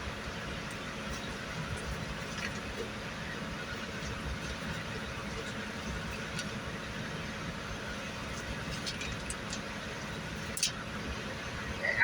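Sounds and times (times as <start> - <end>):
low rumble with hiss: 0.0 - 12.0.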